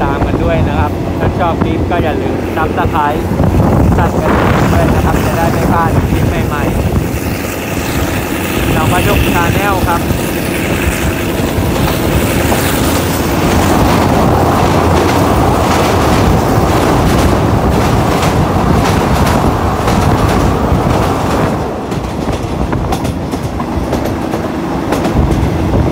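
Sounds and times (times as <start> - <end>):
train wheels clattering over rail joints: 2.3 - 25.9.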